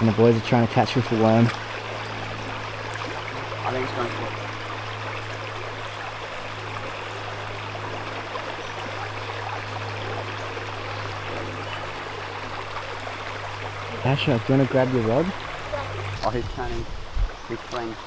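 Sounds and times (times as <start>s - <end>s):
creek water trickling: 0.0s - 18.0s.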